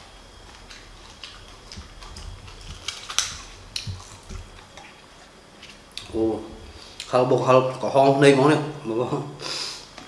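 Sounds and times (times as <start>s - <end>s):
person chewing crunchy food: 0.0s - 8.2s.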